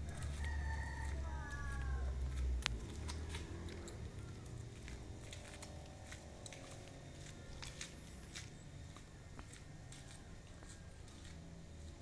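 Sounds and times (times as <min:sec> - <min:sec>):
flip-flop footsteps on wet pavement: 0:00.0 - 0:12.0.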